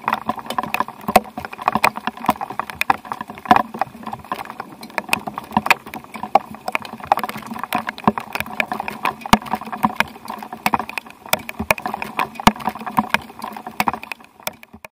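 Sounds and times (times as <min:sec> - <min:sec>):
raindrops tapping a hard surface: 0:00.0 - 0:14.9.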